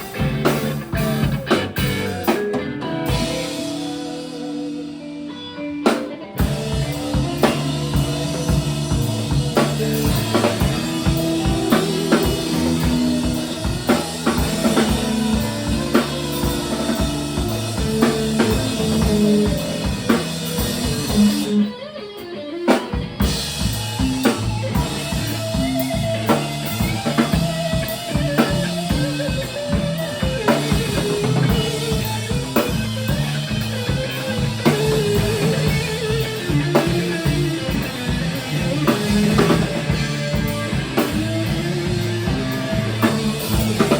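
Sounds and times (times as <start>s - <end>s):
live band playing: 0.0s - 43.9s.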